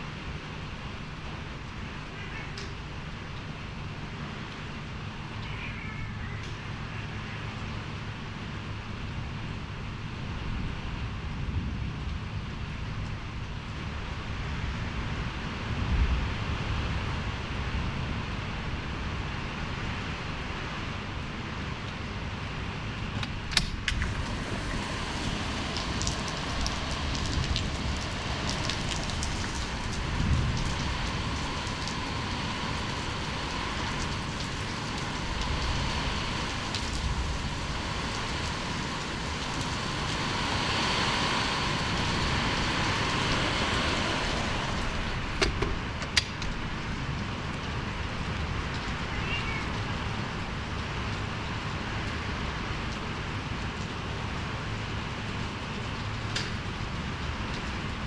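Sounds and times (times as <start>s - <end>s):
rain: 0.0s - 58.0s
wind: 0.0s - 58.0s.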